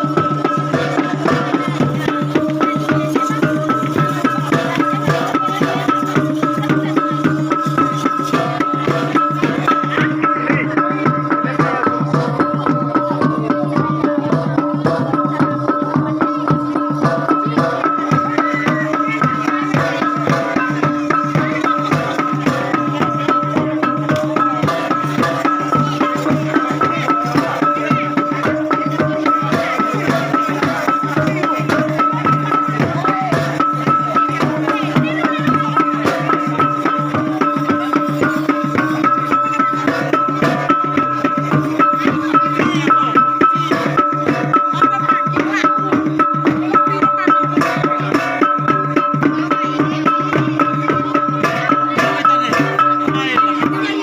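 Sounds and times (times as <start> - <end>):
drums beating fast rhythm: 0.0 - 54.0.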